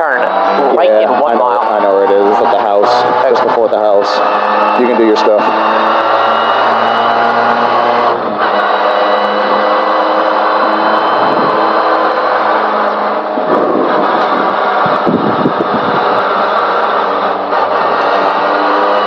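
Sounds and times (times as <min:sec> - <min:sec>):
car engine cruising: 0:00.0 - 0:19.0
road and tyre noise: 0:00.0 - 0:19.0.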